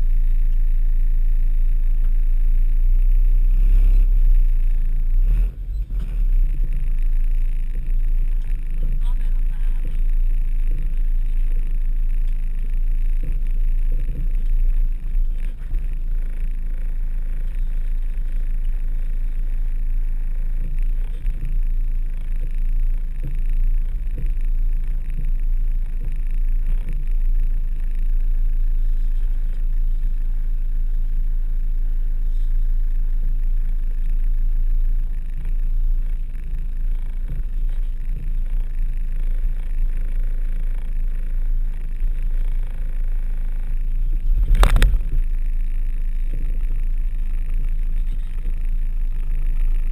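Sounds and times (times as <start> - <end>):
van engine running low: 0.0 - 49.9.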